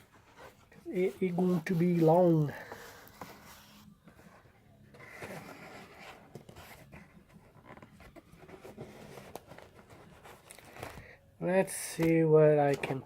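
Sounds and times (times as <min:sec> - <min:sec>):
hands handling cardboard box: 0:00.0 - 0:11.1.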